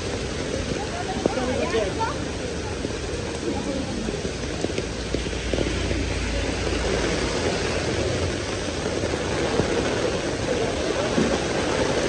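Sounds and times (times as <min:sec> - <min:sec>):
heavy rain on street: 0:00.0 - 0:12.0
passing road traffic rumble: 0:00.0 - 0:12.0.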